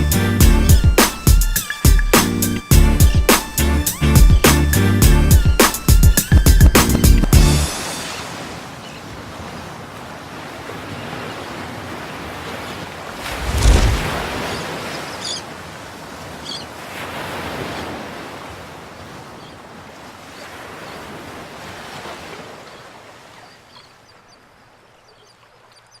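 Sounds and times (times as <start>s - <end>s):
ocean waves breaking: 0.0s - 25.7s.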